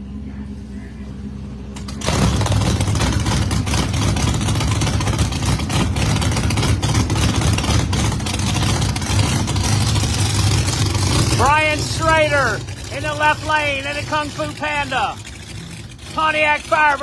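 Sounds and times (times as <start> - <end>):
race car engine full throttle: 0.0 - 17.0.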